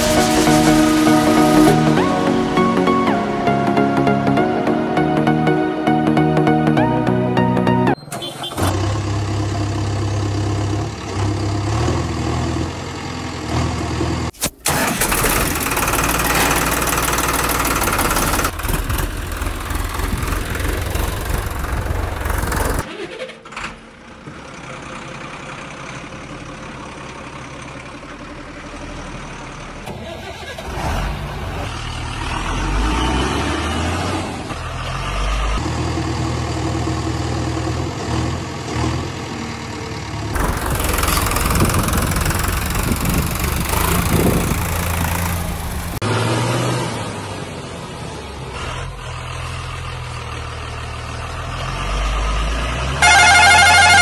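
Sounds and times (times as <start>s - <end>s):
heavy vehicle engine idling and revving: 0.0s - 54.0s.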